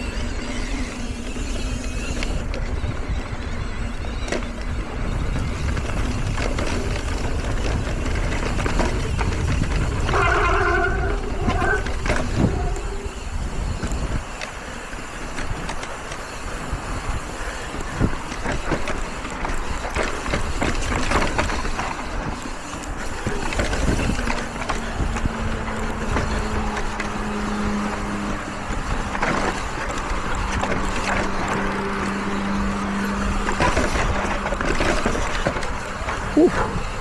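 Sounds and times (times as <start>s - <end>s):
bike tyre noise: 0.0s - 37.0s
bike knocks and rattles: 1.5s - 14.5s, 17.2s - 37.0s
wind rushing over microphone: 2.0s - 37.0s.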